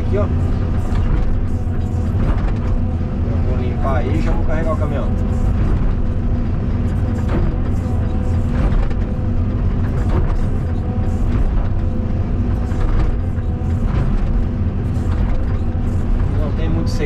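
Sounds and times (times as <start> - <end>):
excavator diesel engine under load: 0.0 - 17.0.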